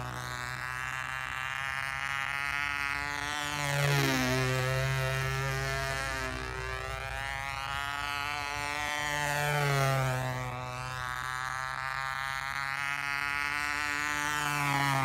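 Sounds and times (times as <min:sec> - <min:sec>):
model airplane motor droning: 0:00.0 - 0:15.0.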